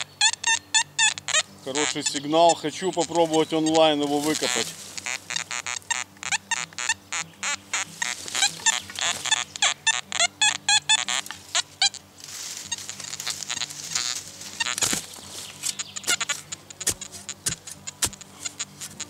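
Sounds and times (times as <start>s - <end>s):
metal detector warbling beeps: 0.0s - 12.0s, 12.6s - 19.0s.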